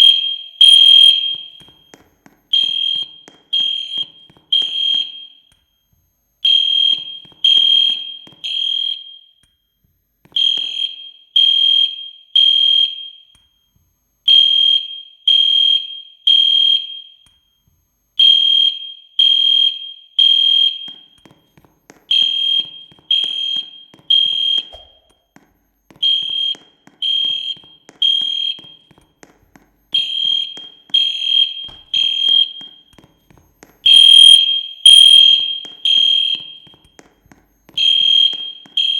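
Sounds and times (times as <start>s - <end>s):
fire alarm beeping: 0.0s - 1.9s, 2.5s - 21.3s, 22.1s - 25.1s, 25.9s - 28.9s, 29.9s - 33.0s, 33.8s - 36.8s, 37.7s - 38.9s.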